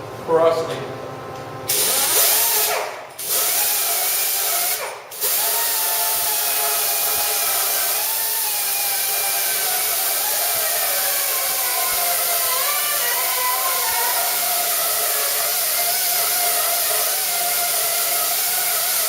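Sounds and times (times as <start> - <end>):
power tool whining against metal: 1.7 - 19.0.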